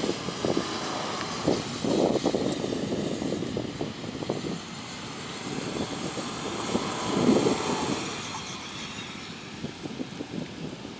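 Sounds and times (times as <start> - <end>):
car engine running: 0.0 - 10.0
tyres churning sand: 0.0 - 10.9.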